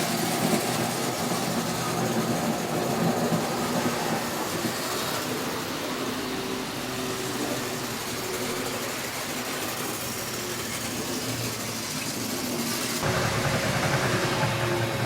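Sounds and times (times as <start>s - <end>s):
faint motor whines: 0.0s - 15.0s
model trains whirring hum: 0.0s - 15.0s.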